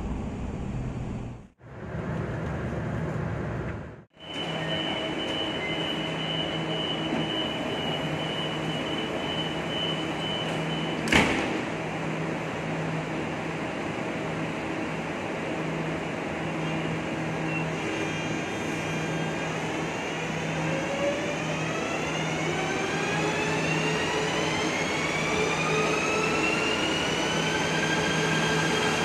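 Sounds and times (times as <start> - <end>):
electric train hum: 0.0 - 29.0.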